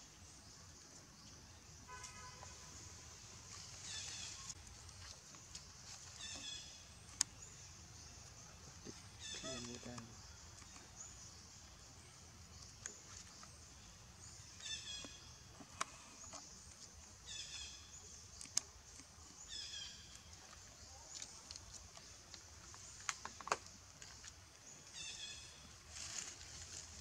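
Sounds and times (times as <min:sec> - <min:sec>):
faint outdoor background: 0:00.0 - 0:27.0.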